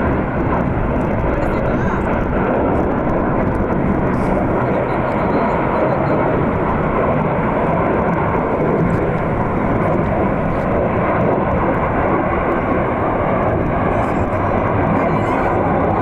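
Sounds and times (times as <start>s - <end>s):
airplane engines running: 0.0s - 16.0s.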